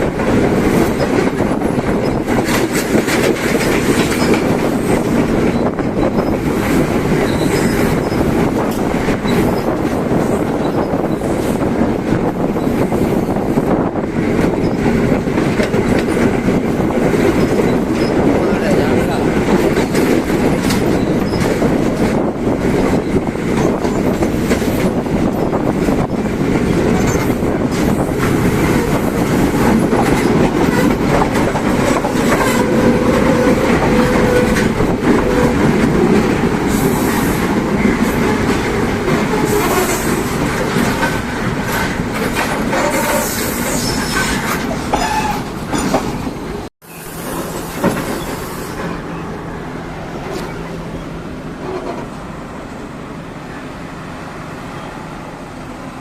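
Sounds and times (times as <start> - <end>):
wheels clattering over rail joints: 0.0 - 52.5
train rumbling: 0.0 - 56.0.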